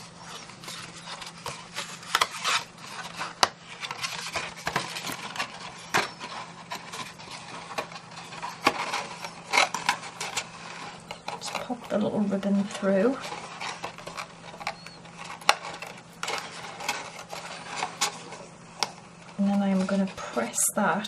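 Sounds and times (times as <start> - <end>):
paper rubbing and rustling: 0.0 - 20.6
faint steady hum: 0.0 - 21.0.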